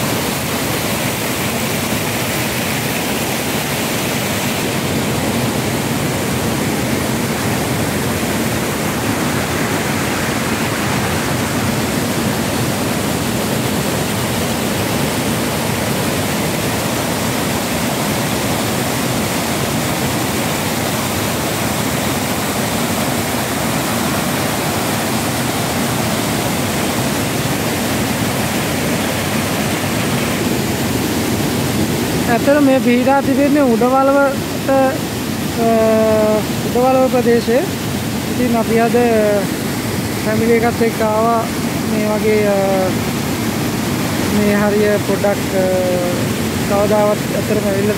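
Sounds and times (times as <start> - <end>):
water rushing over weir: 0.0 - 47.9.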